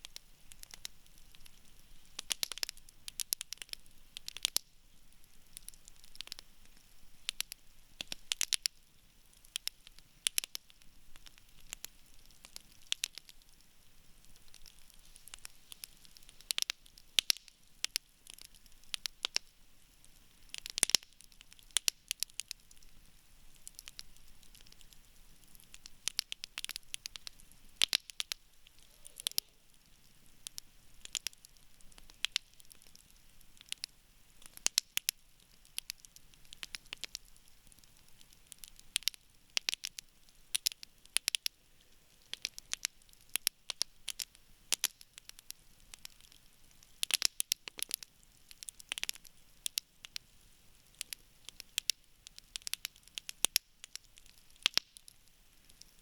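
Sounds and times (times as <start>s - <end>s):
campfire crackling and popping: 0.0s - 56.0s
faint fire hiss: 0.0s - 56.0s.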